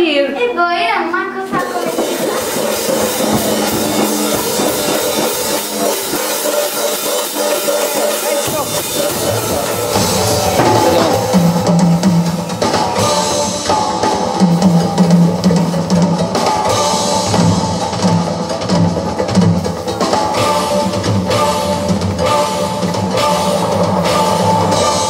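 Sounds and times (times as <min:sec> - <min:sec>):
drum kit playing: 0:01.5 - 0:25.0
rock backing music: 0:01.5 - 0:25.0.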